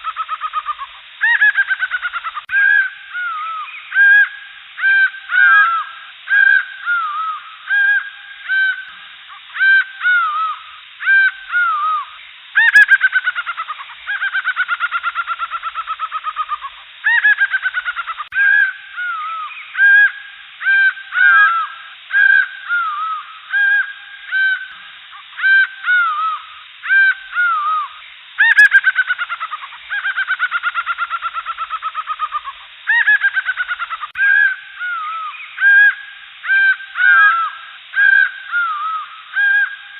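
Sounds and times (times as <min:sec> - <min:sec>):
bird call with falling notes: 0:00.0 - 0:39.9
jungle birds calling: 0:00.0 - 0:39.9.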